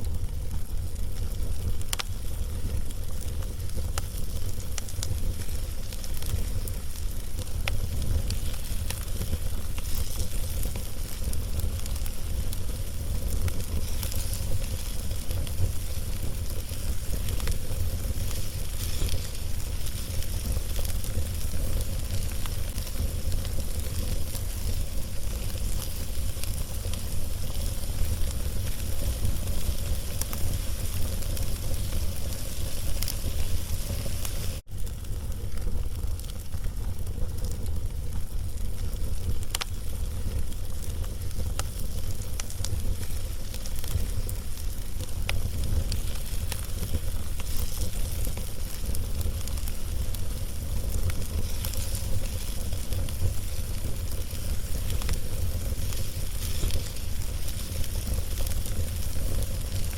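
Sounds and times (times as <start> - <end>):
fire crackling and popping: 0.0 - 59.9
fire hissing: 0.0 - 59.9.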